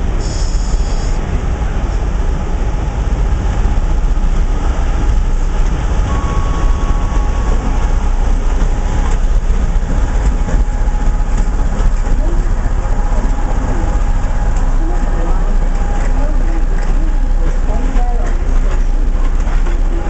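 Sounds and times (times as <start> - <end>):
locomotive rumbling past: 0.0 - 20.0.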